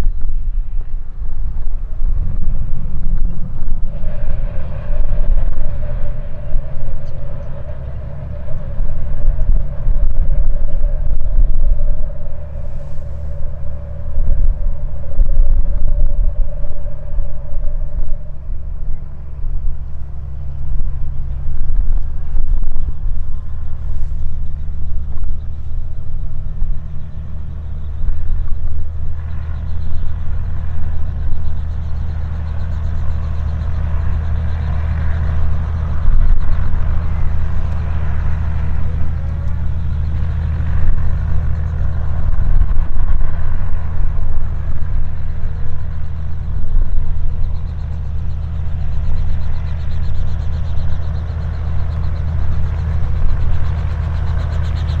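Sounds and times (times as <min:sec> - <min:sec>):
helicopter rotor throbbing: 0:00.0 - 0:55.0.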